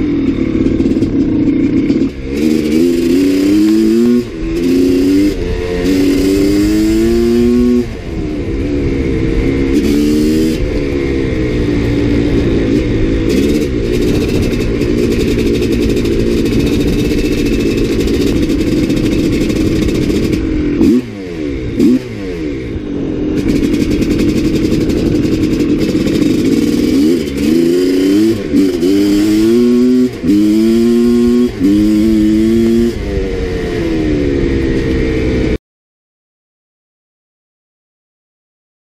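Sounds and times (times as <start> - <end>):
dirt bike engine revving: 0.0 - 35.6
wind on microphone: 2.3 - 35.2.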